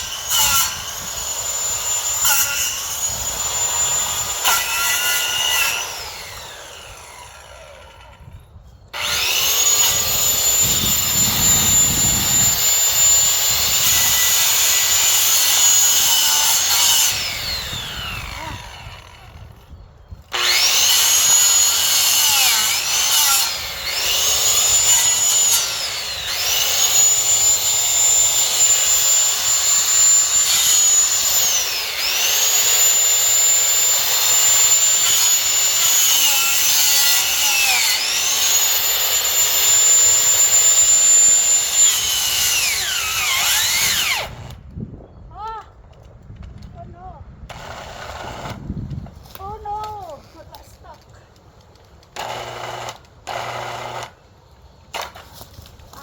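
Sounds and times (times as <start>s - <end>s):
power saw cutting branches: 0.0s - 44.8s, 47.5s - 56.0s.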